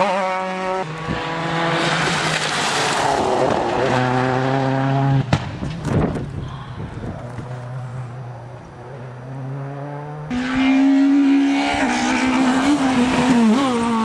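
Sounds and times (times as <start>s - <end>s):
rally car engine at high revs: 0.0s - 5.3s, 7.2s - 14.0s.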